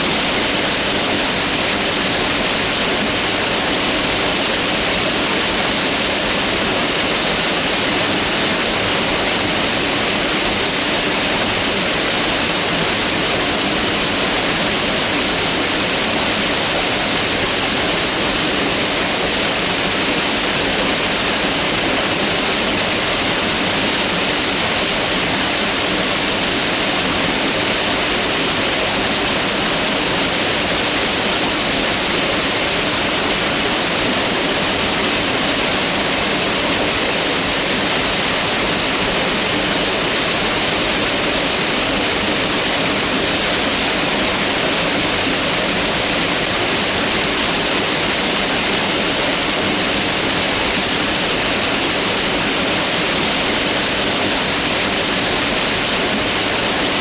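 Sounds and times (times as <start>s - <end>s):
mountain river rushing: 0.0s - 57.0s.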